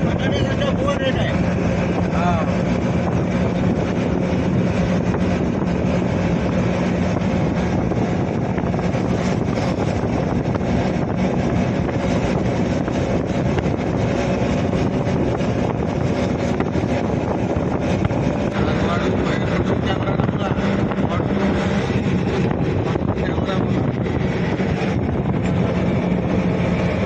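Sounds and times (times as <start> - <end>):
engine hum: 0.0 - 27.0
road and wind noise: 0.0 - 27.0.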